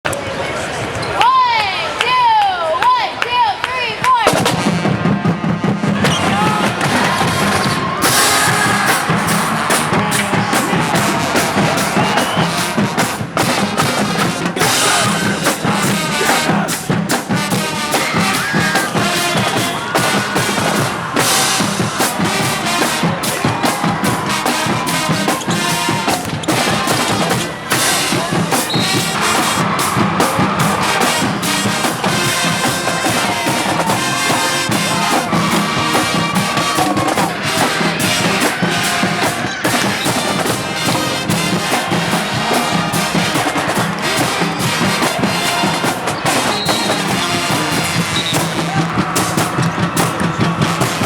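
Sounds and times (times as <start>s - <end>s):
brass band playing: 4.2s - 51.0s
drums steady beat: 4.2s - 51.0s.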